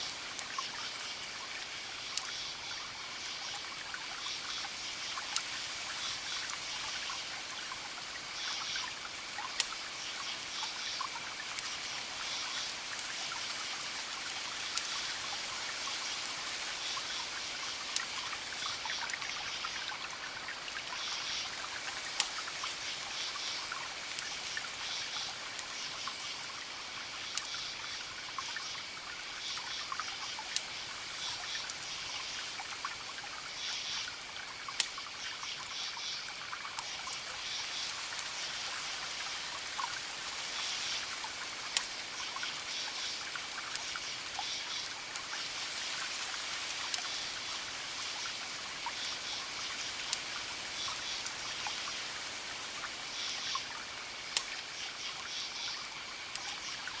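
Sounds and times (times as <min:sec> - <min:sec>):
campfire crackling: 0:00.0 - 0:57.0
crickets chirping: 0:00.0 - 0:57.0.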